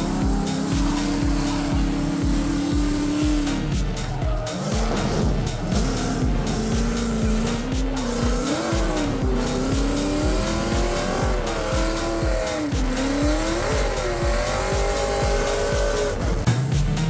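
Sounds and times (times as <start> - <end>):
drift car engines revving: 0.0 - 17.0
music with thumping beat: 0.0 - 17.0.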